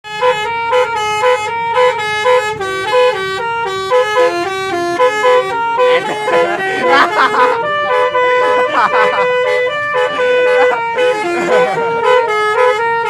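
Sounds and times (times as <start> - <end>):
musical vehicle horn tune: 0.0 - 13.0.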